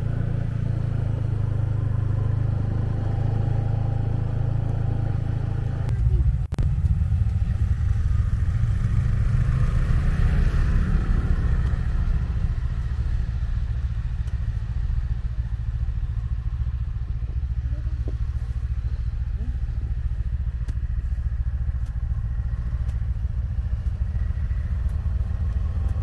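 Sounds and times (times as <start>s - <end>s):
snowmobile engines rumbling: 0.0s - 26.0s.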